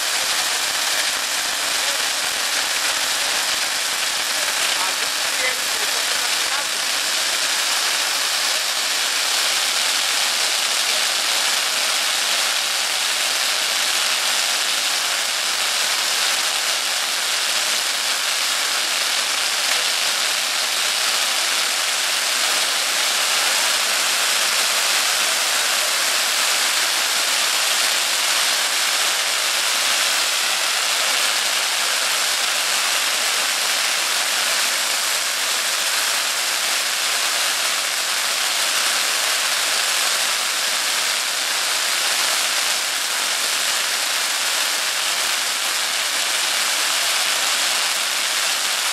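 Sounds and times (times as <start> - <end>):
fireworks spraying sparks hissing: 0.0 - 48.9.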